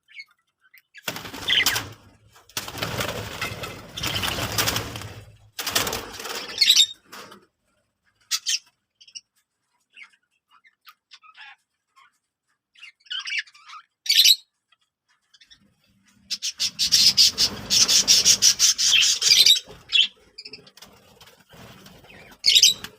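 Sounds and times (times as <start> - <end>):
birds chirping: 0.0 - 7.2, 8.2 - 22.9.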